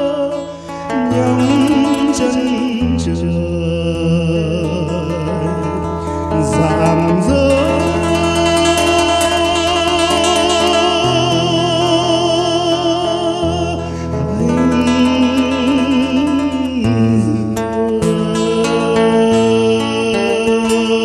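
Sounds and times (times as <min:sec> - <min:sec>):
guitar accompaniment: 0:00.0 - 0:21.0
man singing: 0:00.0 - 0:21.0.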